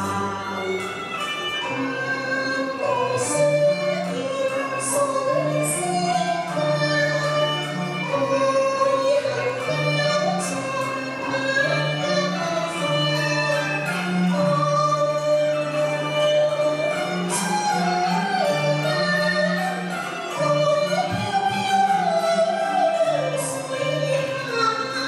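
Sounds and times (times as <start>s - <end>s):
instrumental accompaniment: 0.0s - 25.0s
woman singing opera with vibrato: 1.7s - 25.0s.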